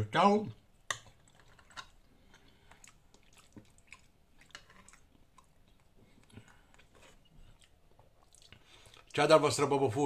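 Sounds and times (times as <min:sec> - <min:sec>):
person chewing food: 0:00.8 - 0:09.2.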